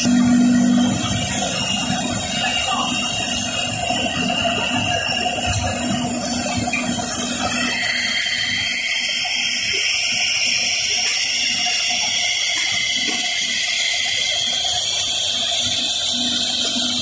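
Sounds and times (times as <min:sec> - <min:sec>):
drilling machine whine: 0:00.0 - 0:17.0.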